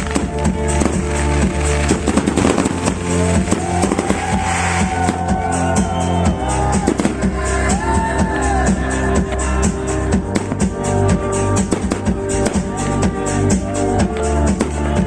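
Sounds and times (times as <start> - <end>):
fireworks crackling and banging: 0.0 - 15.0
loud music with steady bass: 0.0 - 15.0.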